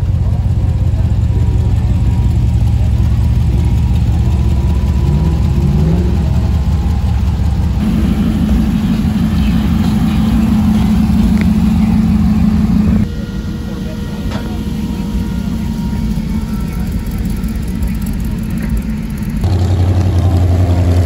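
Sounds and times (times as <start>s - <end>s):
car engine low rumble: 0.0s - 21.0s
higher car engine note: 0.0s - 21.0s.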